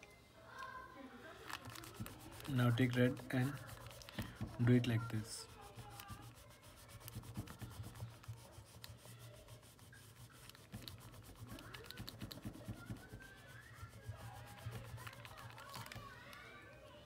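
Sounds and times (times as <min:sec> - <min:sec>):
pencil scratching on paper: 0:01.5 - 0:16.1.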